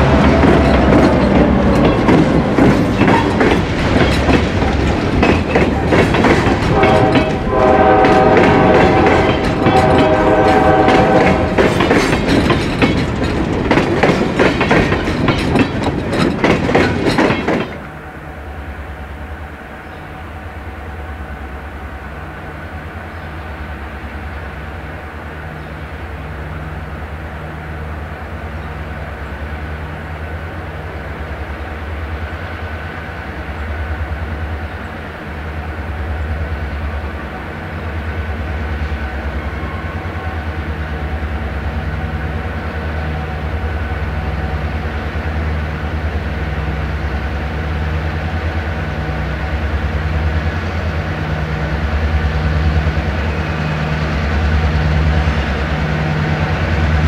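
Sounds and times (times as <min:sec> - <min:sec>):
diesel locomotive engine throbbing: 0:00.0 - 0:57.0.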